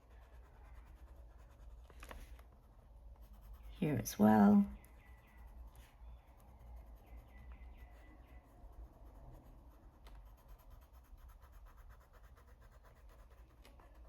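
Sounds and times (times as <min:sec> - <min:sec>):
pencil scratching on paper: 0:00.0 - 0:14.0.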